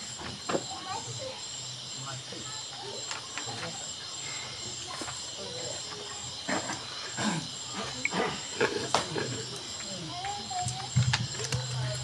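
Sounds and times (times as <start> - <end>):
low voices: 0.0 - 12.0
night insects chirring: 0.0 - 12.0.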